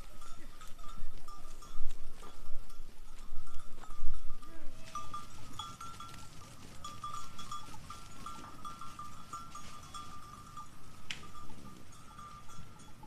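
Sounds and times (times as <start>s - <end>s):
sheep bells clinking: 0.0s - 13.0s.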